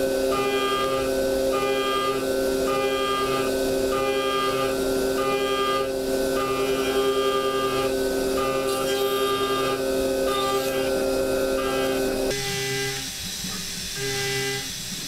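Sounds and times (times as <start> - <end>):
higher machine tones: 0.0 - 14.9
milling machine whine: 0.0 - 15.0.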